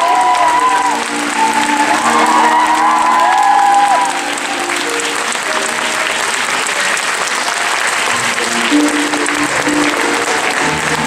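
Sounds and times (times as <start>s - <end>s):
audience applauding: 0.0s - 11.0s
soft music: 0.0s - 11.0s.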